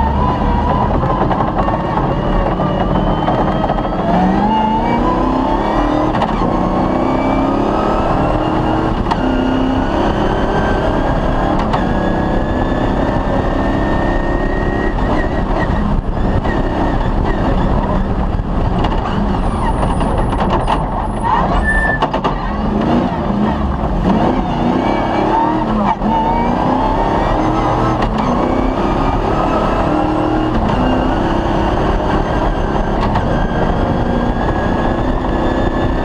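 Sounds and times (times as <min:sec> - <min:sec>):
rally car engine accelerating: 0:00.0 - 0:36.0.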